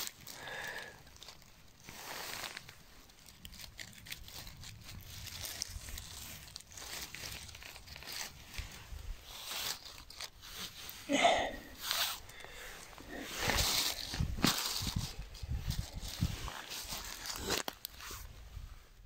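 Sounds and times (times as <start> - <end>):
dry leaves rustling and crackling: 0.0 - 18.0.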